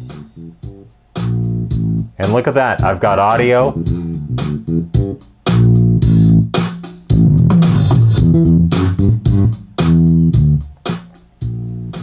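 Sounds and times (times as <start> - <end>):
rock music with bass and drums: 0.0 - 12.0.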